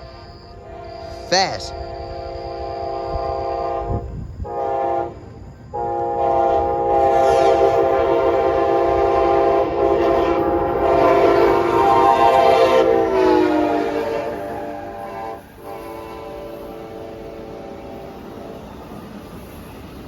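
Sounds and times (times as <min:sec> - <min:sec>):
train horn: 0:00.0 - 0:18.7
train rumble: 0:00.0 - 0:20.0.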